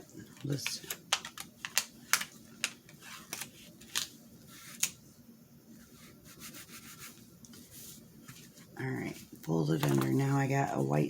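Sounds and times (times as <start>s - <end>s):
paper rustling: 0.3s - 5.0s, 5.8s - 10.9s.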